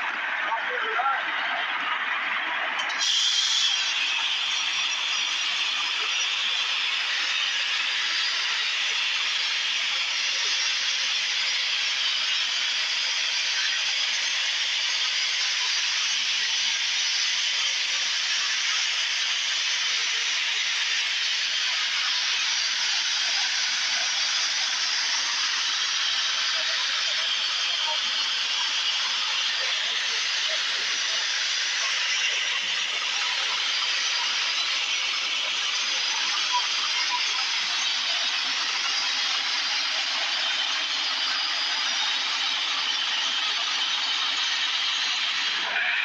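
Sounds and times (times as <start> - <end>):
steady hiss: 2.8 - 45.9.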